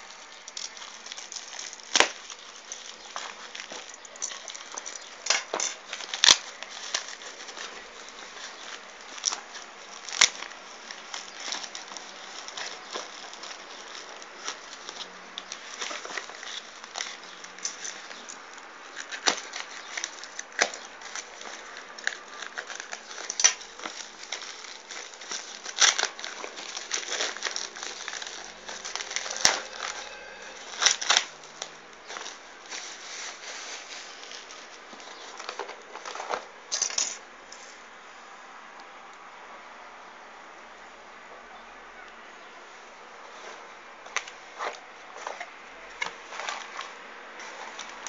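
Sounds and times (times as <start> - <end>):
packaging rustling and crinkling: 0.0 - 37.8, 43.2 - 48.0.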